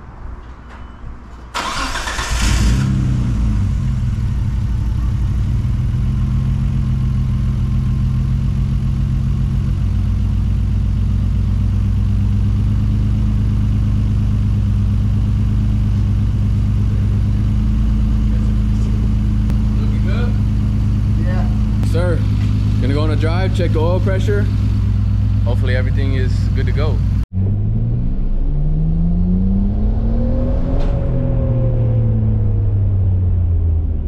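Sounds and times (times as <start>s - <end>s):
car engine starting and idling: 1.3s - 34.0s.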